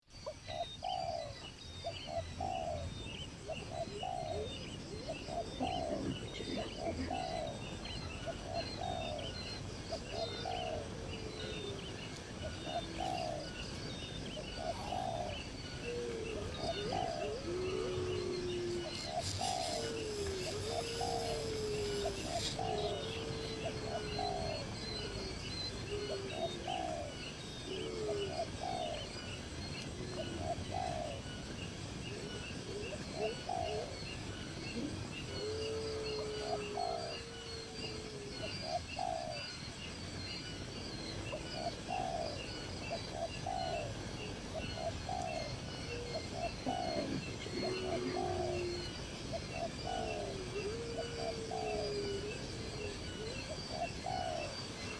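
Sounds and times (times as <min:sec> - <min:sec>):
doves cooing: 0:00.0 - 0:54.9
small birds chirping: 0:00.0 - 0:54.9.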